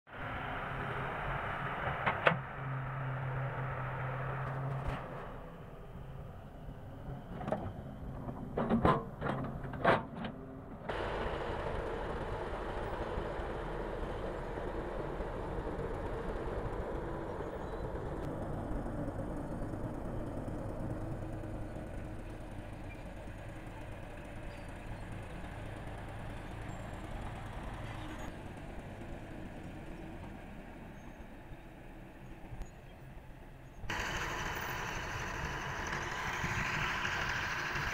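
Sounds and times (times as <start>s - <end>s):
bulldozer engine and tracks rumbling: 0.1s - 37.9s.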